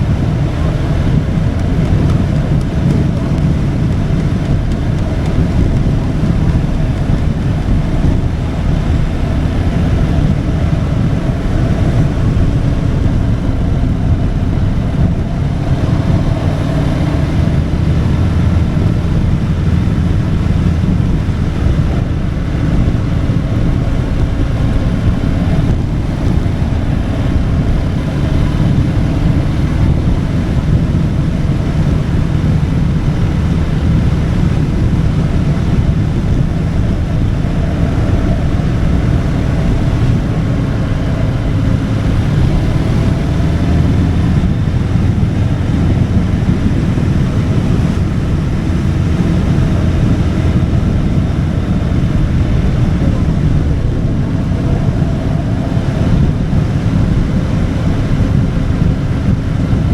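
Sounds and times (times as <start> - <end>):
motorcycle engine drone: 0.0 - 59.9
wind rushing over microphone: 0.0 - 59.9.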